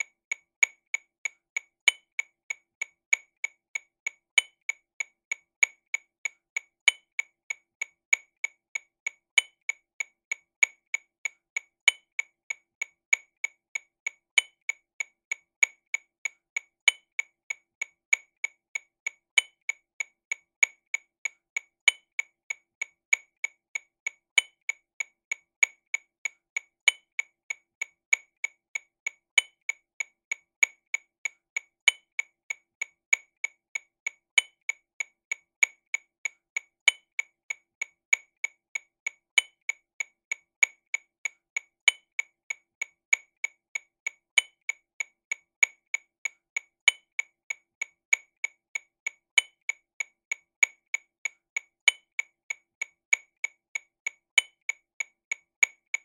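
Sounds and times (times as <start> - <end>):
accented metronome click: 0.0 - 56.0
metronome ticking: 0.0 - 56.0.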